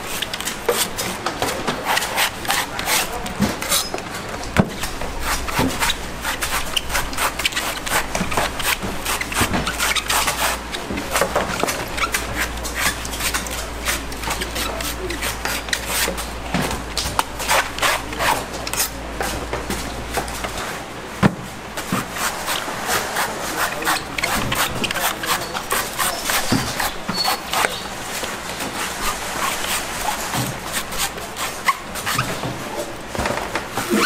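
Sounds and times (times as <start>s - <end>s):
knife scraping coconut husk: 0.0s - 4.0s, 4.7s - 16.3s, 17.3s - 19.0s, 21.8s - 32.5s.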